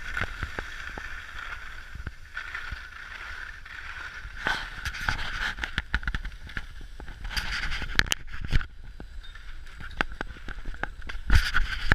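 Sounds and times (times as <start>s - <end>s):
scraping hiss on snow: 0.0s - 11.9s.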